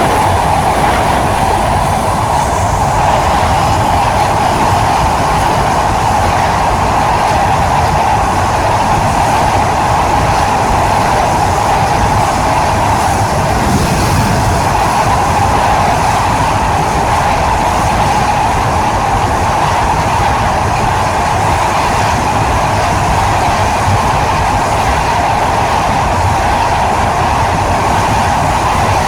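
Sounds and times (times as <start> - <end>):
train running on rails: 0.0 - 29.0.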